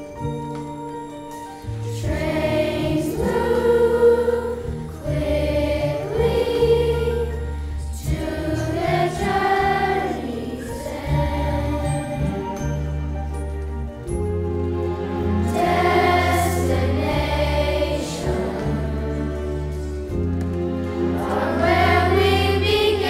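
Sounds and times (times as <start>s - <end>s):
instrumental accompaniment: 0.0s - 23.0s
chorus singing: 1.9s - 13.0s, 14.8s - 23.0s.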